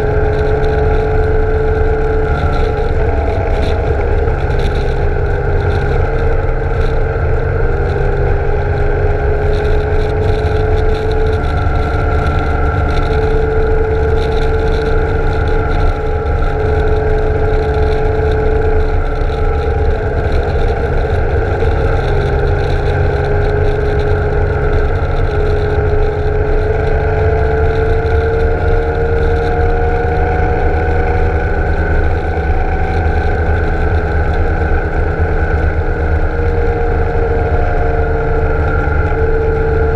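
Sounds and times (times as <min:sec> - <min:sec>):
motorcycle engine humming: 0:00.0 - 0:39.9
wind and road noise: 0:00.0 - 0:39.9.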